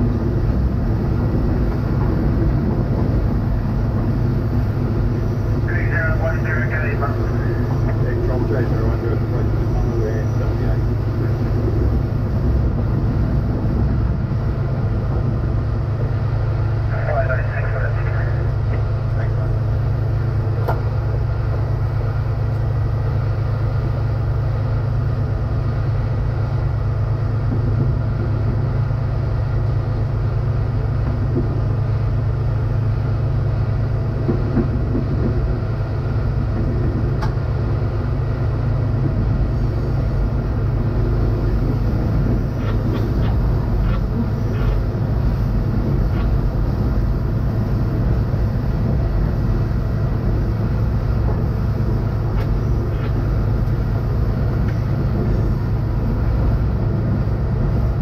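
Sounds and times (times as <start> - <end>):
railcar engine drone: 0.0 - 58.0.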